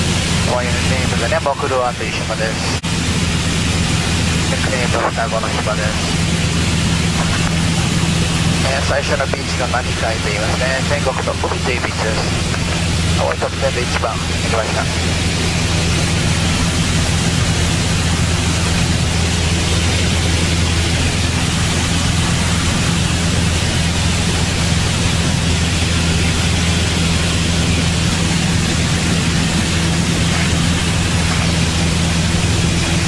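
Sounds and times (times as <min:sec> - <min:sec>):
aircraft engine and propeller drone: 0:00.0 - 0:33.0.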